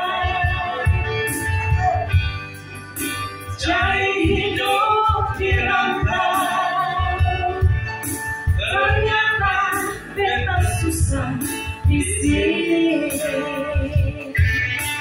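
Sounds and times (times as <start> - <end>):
woman singing into a microphone: 0.0 - 2.2, 3.5 - 15.0.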